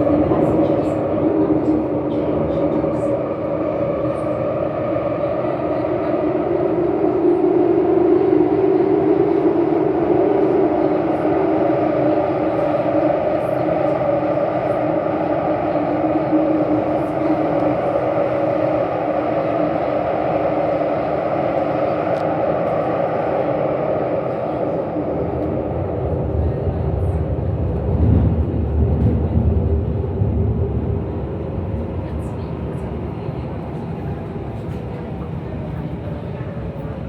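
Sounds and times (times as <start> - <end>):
metro train rumbling in tunnel: 0.0 - 37.0.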